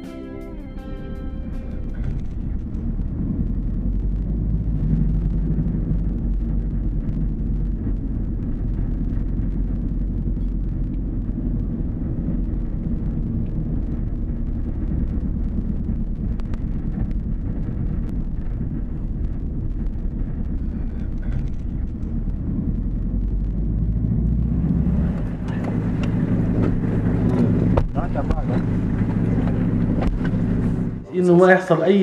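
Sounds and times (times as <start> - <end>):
minibus engine rumbling: 0.0 - 32.0
wind on microphone: 1.7 - 31.0.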